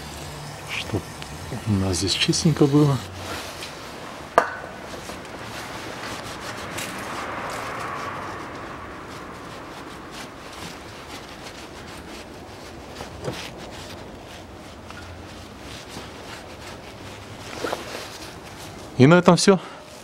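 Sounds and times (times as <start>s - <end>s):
cloth rag rubbing on metal: 0.0s - 20.0s.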